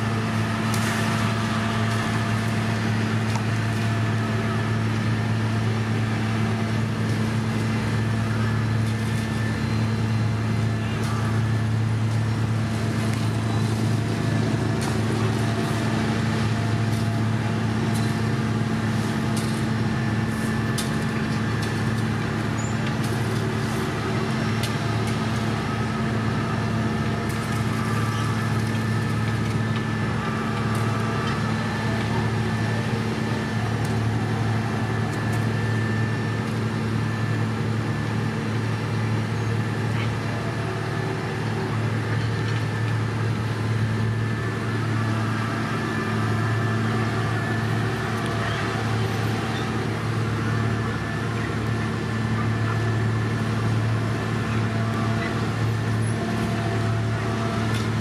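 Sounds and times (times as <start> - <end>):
diesel engines humming: 0.0 - 58.0.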